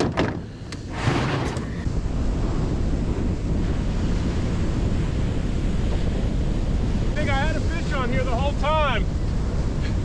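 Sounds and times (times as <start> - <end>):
wind buffeting microphone: 0.0 - 10.0
ocean surf breaking: 0.5 - 10.0.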